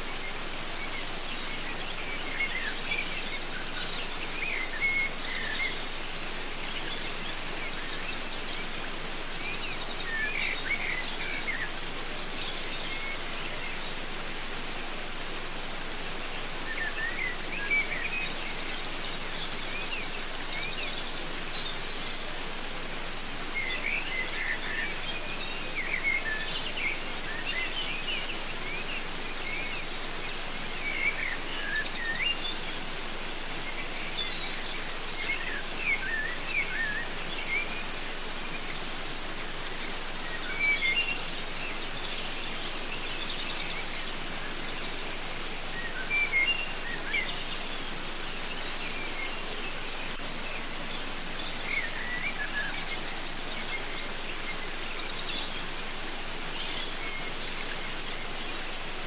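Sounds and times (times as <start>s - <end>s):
birds chirping: 0.0s - 59.0s
waterfall rushing: 0.0s - 59.0s.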